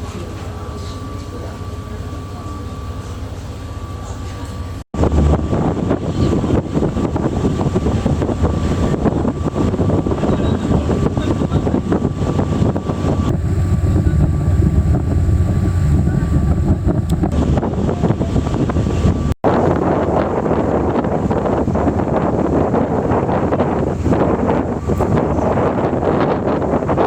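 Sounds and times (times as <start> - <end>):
boat engine running: 0.0 - 27.0
wind buffeting microphone: 4.9 - 27.0.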